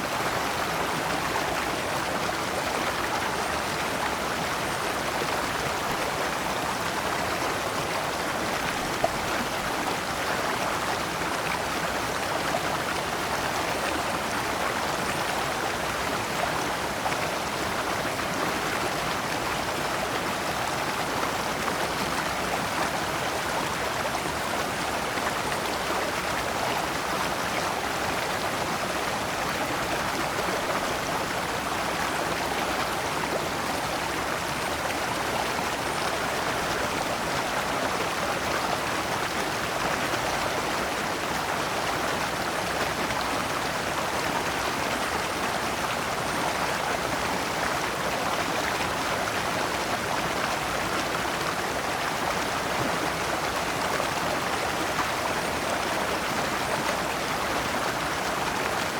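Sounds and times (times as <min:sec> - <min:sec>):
stream flowing over stones: 0:00.0 - 0:58.9.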